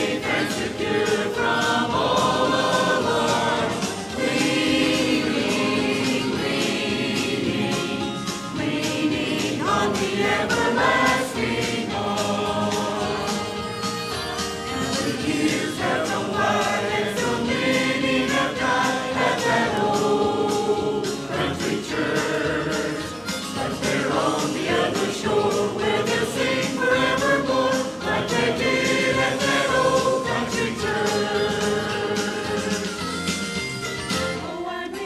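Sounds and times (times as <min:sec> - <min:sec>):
congregation singing a hymn: 0:00.0 - 0:13.7, 0:14.7 - 0:33.2, 0:34.4 - 0:35.0
instrumental accompaniment: 0:00.0 - 0:35.0.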